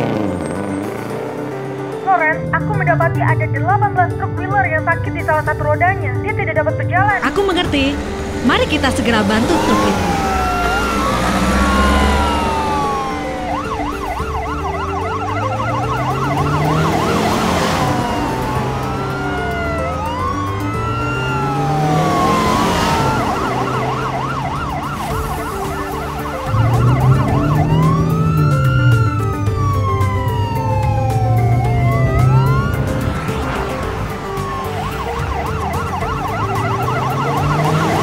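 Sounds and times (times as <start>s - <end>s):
vehicle engine speeding up: 0.0s - 3.1s, 7.2s - 38.0s
ambulance siren wail and yelp: 7.1s - 38.0s.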